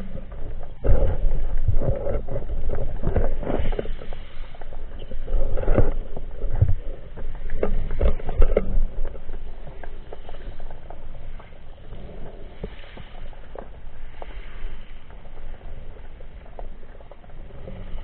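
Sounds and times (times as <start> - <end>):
low rumble of moving water: 0.0 - 18.0
muffled underwater knocks and clicks: 0.0 - 18.0.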